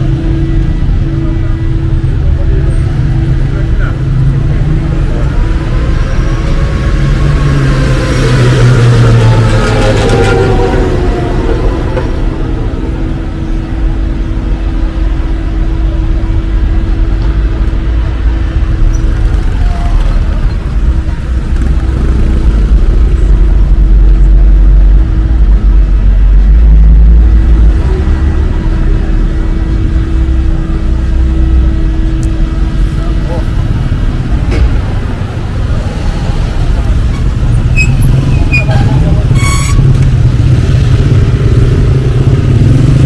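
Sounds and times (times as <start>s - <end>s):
cars driving past: 0.0s - 43.0s.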